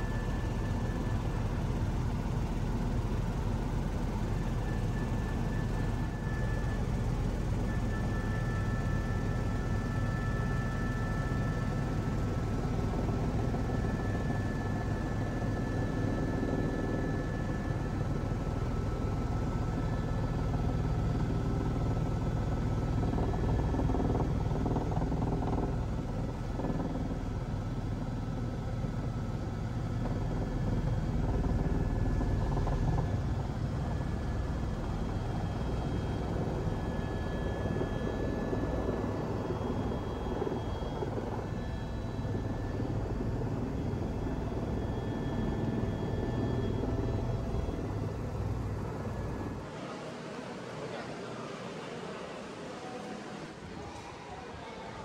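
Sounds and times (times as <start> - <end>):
faint high whines: 0.0 - 55.0
helicopter engine and rotors drone: 0.0 - 55.0.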